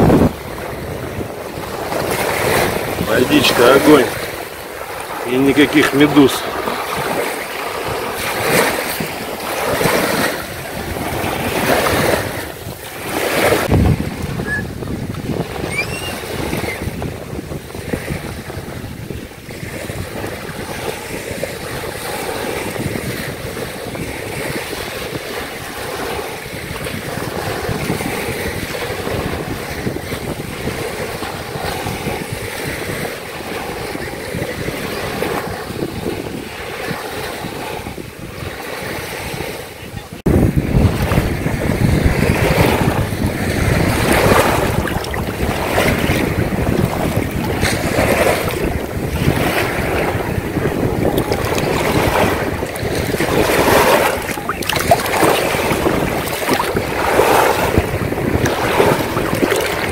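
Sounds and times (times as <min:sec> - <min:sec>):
waves washing over shell beach: 0:00.0 - 0:59.9
wind buffeting microphone: 0:00.0 - 0:59.9.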